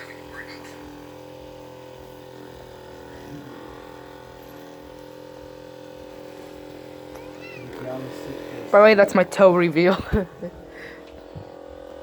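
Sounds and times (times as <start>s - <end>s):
electric massager motor hum: 0.0s - 12.0s.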